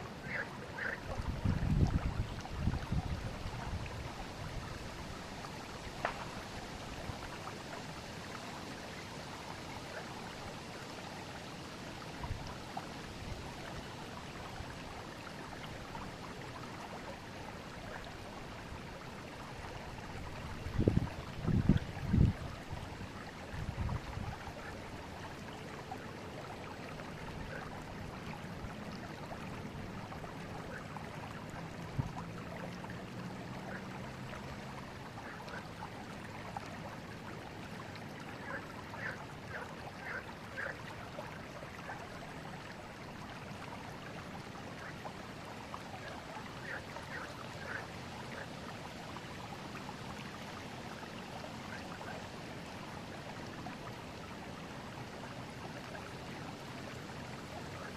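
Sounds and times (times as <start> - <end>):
river flowing: 0.0 - 57.9
water trickling and splashing: 0.0 - 57.9.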